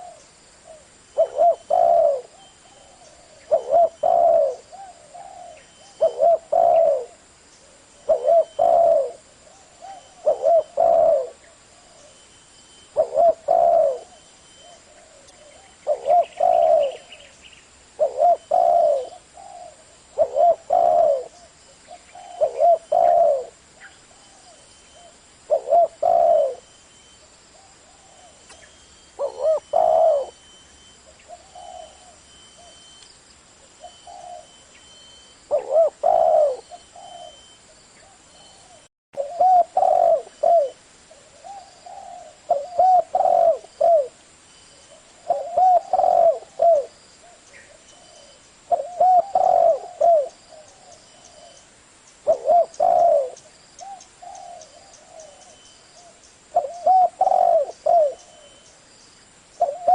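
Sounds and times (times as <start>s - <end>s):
dove cooing: 0.0s - 12.2s, 12.8s - 17.3s, 17.9s - 26.8s, 27.5s - 32.9s, 33.6s - 44.2s, 44.8s - 51.6s, 52.2s - 58.7s, 59.6s - 59.9s.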